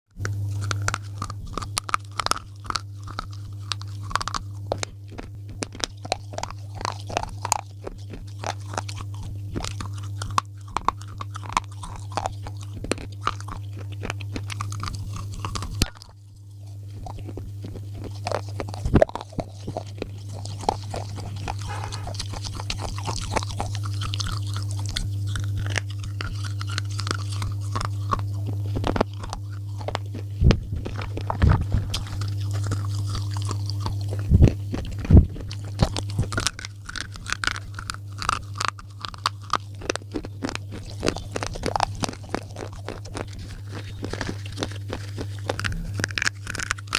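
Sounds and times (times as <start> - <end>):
pencils crunching being chewed: 0.1 - 46.9
steady low hum: 0.1 - 46.9.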